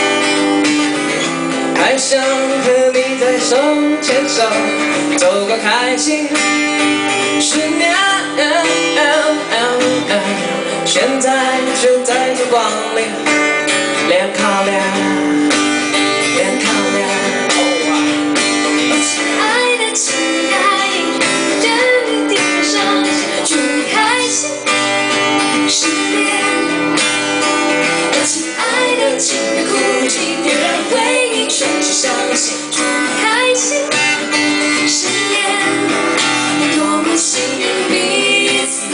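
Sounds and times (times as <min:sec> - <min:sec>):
acoustic guitar strumming: 0:00.0 - 0:38.9
man and woman singing: 0:01.7 - 0:13.4, 0:14.0 - 0:15.2, 0:16.0 - 0:27.1, 0:27.9 - 0:38.9.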